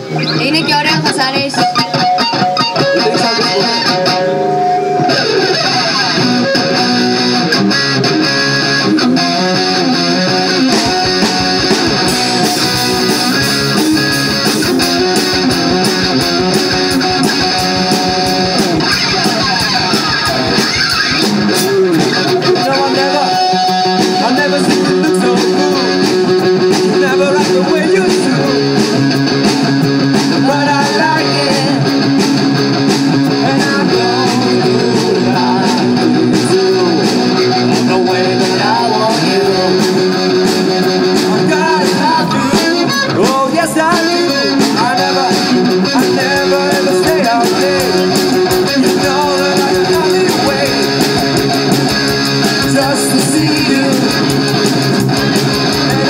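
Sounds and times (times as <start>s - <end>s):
bass guitar: 0.0s - 56.0s
drums: 0.0s - 56.0s
electric guitar: 0.0s - 56.0s.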